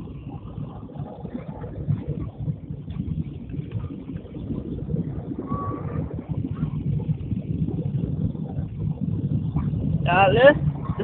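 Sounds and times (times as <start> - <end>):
jet cabin rumble: 0.0 - 11.0.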